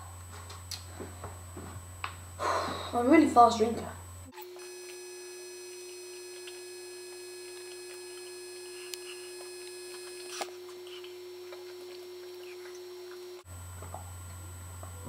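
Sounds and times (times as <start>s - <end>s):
steady hum: 0.0s - 15.0s
faint high whine: 0.9s - 15.0s.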